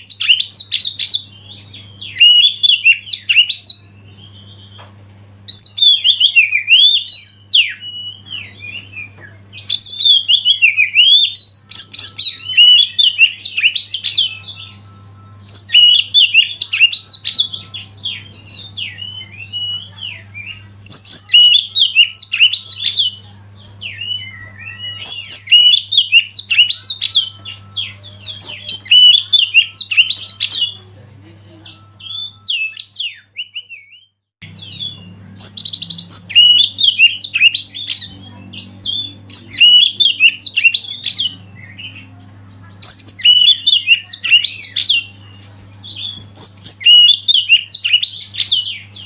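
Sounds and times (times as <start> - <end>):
magpie-robin singing: 0.0 - 49.0.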